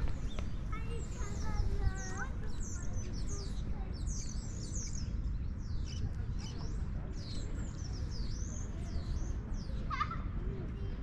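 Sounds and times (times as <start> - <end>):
songbirds chirping and singing: 0.0 - 9.9.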